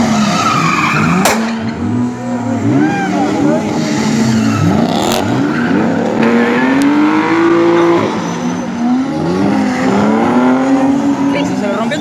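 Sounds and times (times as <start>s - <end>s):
tyres screeching: 0.0s - 1.3s, 2.6s - 12.0s
car engines revving: 0.0s - 12.0s.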